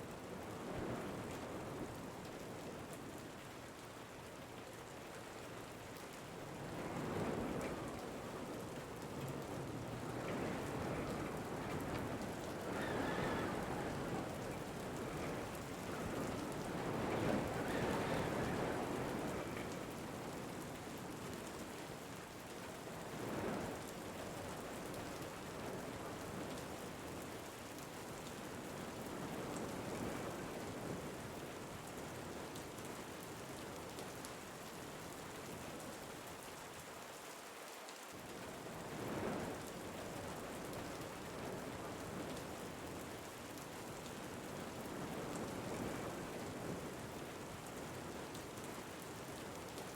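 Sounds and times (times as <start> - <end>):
rain hiss and patter: 0.0 - 49.9.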